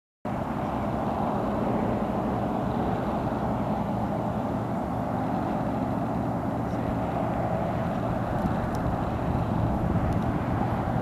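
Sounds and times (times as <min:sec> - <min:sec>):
low rumbling background noise: 0:00.3 - 0:11.0.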